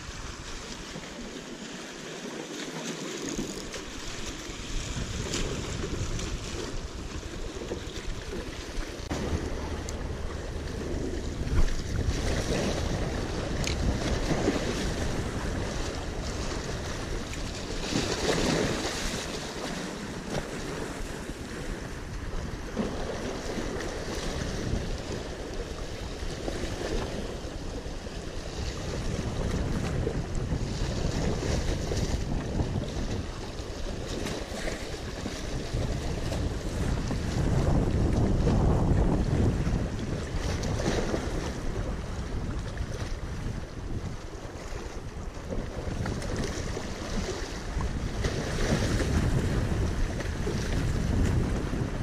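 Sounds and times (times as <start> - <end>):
waves splashing against rocks: 0.0 - 52.0
wind buffeting microphone: 3.4 - 52.0.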